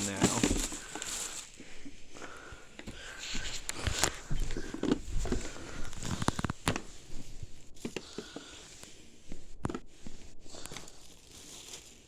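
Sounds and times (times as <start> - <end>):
packages knocking and rustling: 0.0 - 12.0.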